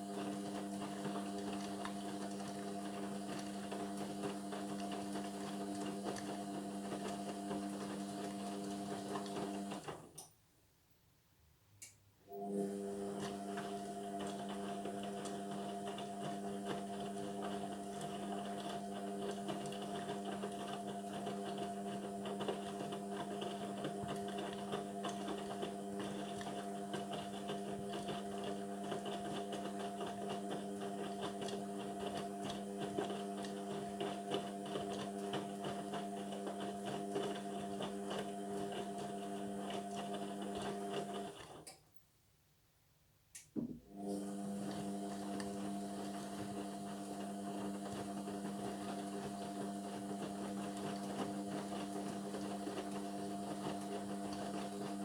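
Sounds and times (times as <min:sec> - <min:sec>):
washing machine motor hum: 0:00.0 - 0:10.1, 0:12.3 - 0:41.5, 0:43.6 - 0:55.0.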